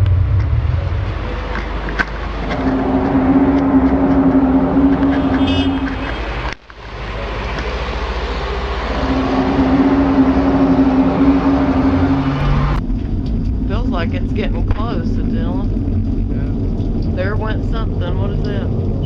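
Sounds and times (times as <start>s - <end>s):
continuous rumbling noise: 0.0s - 19.0s
low droning tone: 0.0s - 19.0s.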